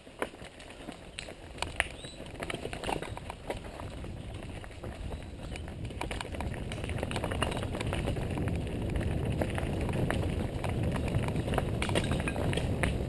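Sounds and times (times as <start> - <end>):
bike clicking and rattling: 0.0 - 13.0
wind rumble on microphone: 0.9 - 13.0.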